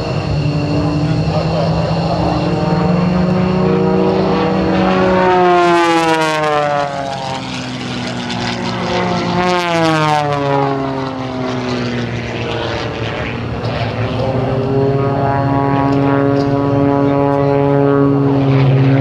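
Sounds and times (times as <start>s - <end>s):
propeller planes flying overhead: 0.0s - 19.0s.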